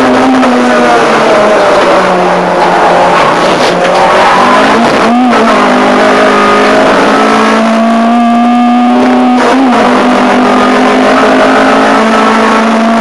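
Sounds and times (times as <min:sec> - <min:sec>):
race car engine running hard: 0:00.0 - 0:13.0.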